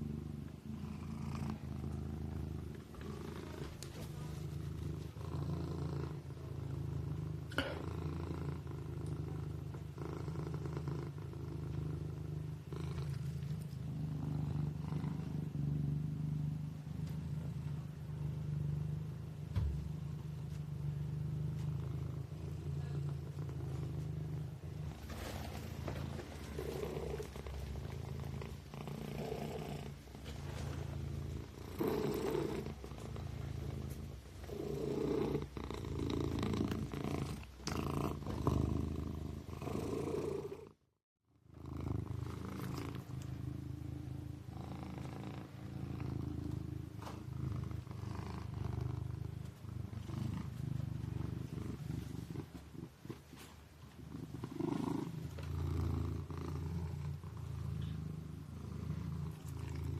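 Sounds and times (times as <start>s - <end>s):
kitten purring: 0.0s - 59.9s.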